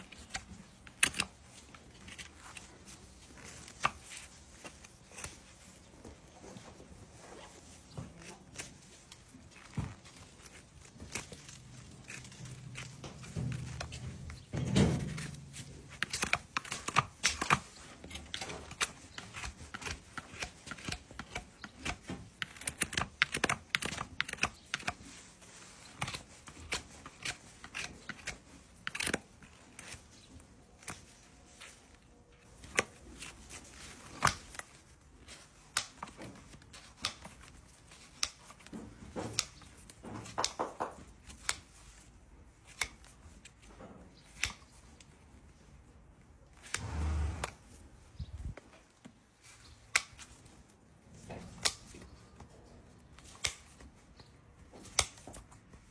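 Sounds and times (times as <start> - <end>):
hoof trimming clicks and scraping: 0.0 - 55.9.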